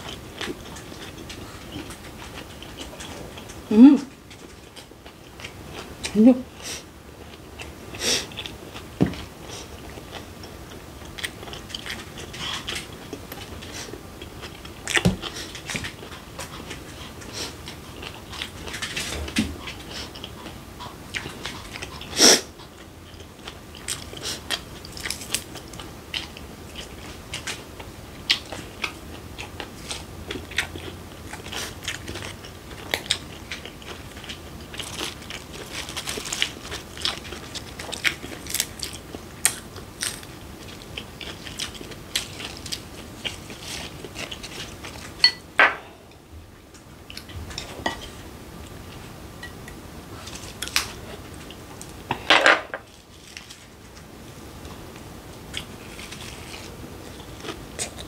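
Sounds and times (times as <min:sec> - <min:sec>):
chewing and crunching: 0:00.0 - 0:52.2, 0:52.8 - 0:54.8, 0:55.4 - 0:58.0.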